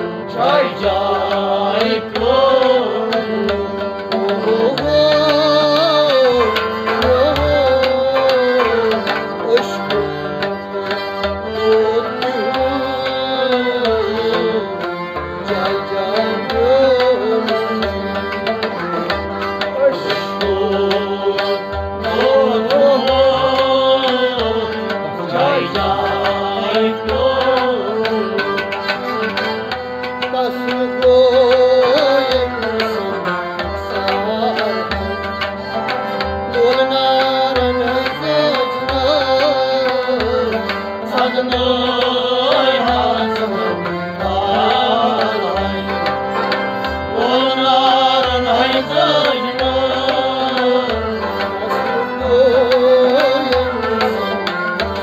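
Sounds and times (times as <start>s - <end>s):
harmonium melody: 0.0s - 55.0s
person singing: 0.0s - 55.0s.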